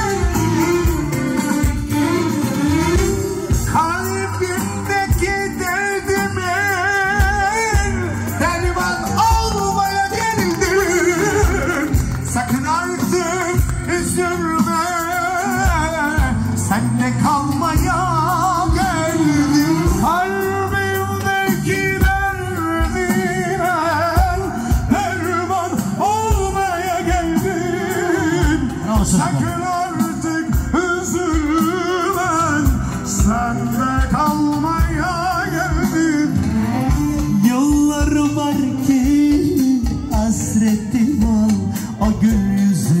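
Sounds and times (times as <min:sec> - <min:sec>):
live band music over loudspeaker: 0:00.0 - 0:43.0
man singing into a microphone: 0:00.0 - 0:43.0.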